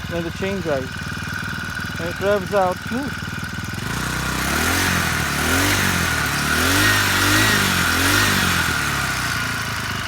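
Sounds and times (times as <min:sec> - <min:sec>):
small engine revving: 0:00.0 - 0:10.0.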